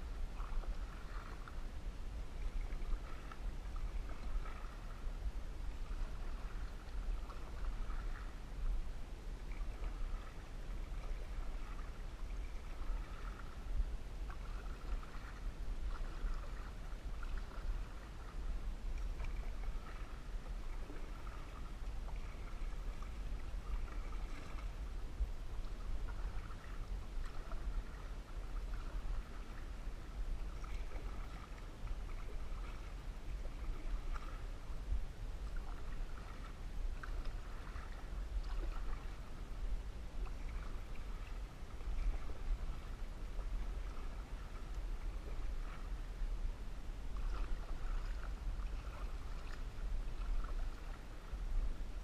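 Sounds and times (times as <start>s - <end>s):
paddle strokes swishing in water: 0.0s - 52.0s.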